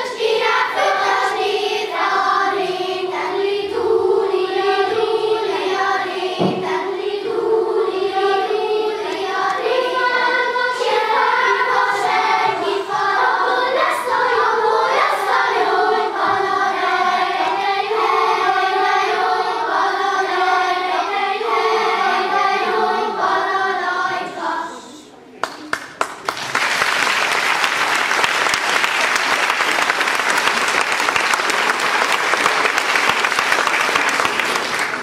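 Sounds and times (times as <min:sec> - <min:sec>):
children's choir singing: 0:00.0 - 0:25.3, 0:27.0 - 0:35.0.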